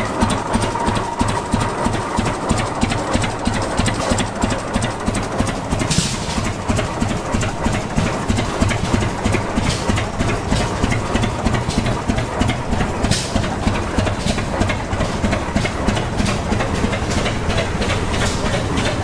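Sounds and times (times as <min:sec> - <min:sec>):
old engine knocking rhythmically: 0:00.0 - 0:19.0.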